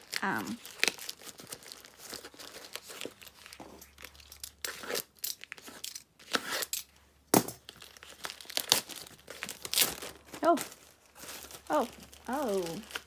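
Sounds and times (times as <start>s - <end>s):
sharp plastic crackle: 0.0s - 6.0s, 7.6s - 13.0s
plastic bag tearing and crinkling: 0.0s - 6.8s, 7.6s - 13.0s.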